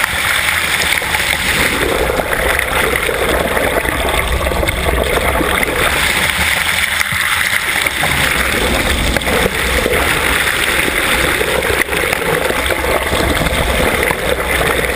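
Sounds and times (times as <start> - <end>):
underwater rush of water: 0.0 - 14.9.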